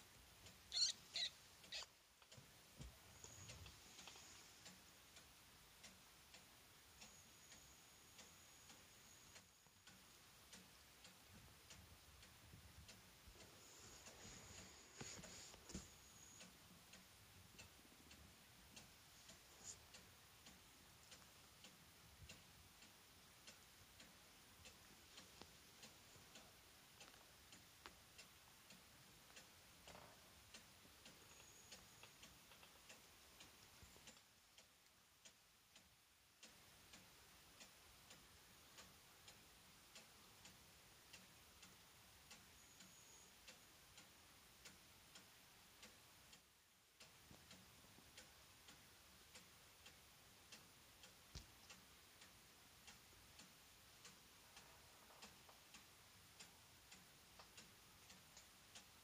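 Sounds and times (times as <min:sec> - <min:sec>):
soft regular ticks: 0:00.0 - 0:59.0.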